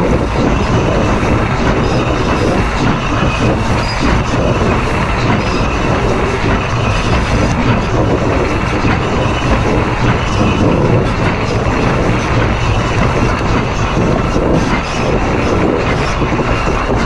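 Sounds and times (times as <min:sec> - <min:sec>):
locomotive wheels rolling on rail: 0:00.0 - 0:17.0.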